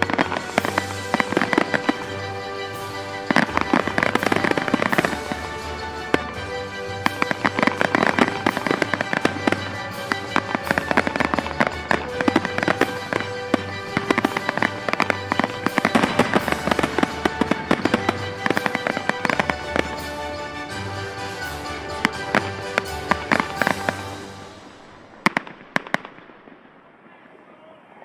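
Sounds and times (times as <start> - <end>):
background music: 0.0 - 26.9
fireworks cracks and bangs: 0.0 - 27.2.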